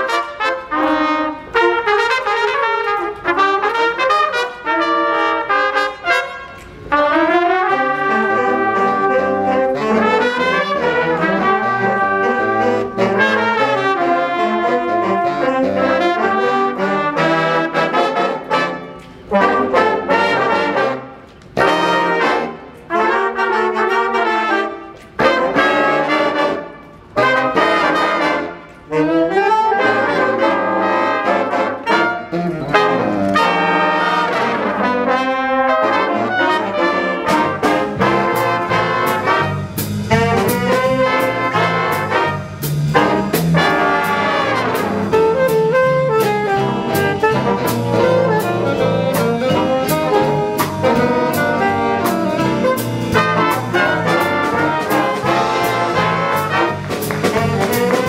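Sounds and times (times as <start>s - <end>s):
jazz big band playing: 0.0s - 58.0s.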